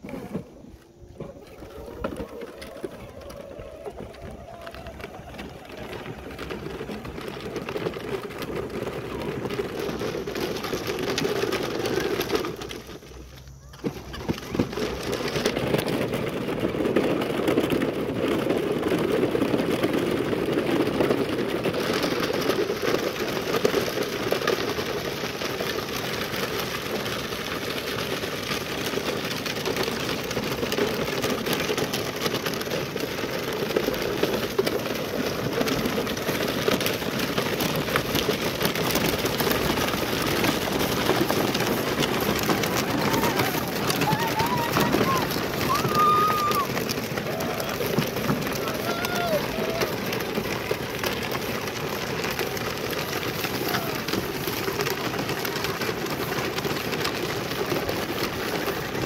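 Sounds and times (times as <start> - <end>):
plastic wheels rolling on gravel: 0.0 - 59.0.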